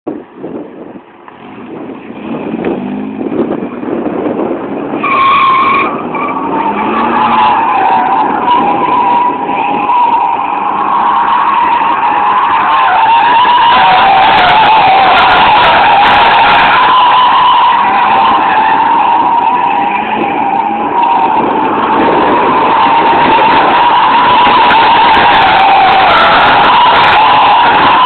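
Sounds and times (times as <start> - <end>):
car engine revving: 1.4 - 28.0
tyres squealing: 4.9 - 28.0.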